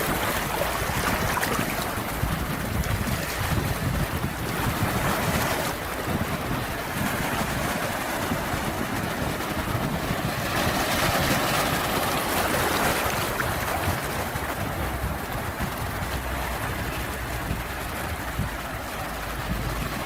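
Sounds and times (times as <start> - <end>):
sea waves washing in: 0.0 - 20.0
wind: 0.0 - 20.0.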